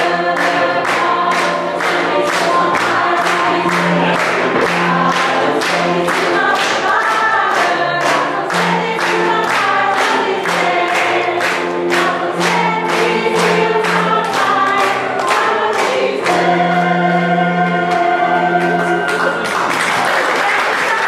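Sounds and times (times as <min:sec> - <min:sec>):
clapping on the beat: 0:00.0 - 0:16.9, 0:17.9 - 0:21.0.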